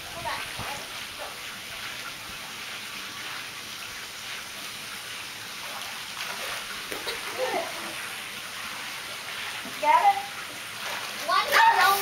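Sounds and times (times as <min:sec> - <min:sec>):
water splashing into pool: 0:00.0 - 0:12.0.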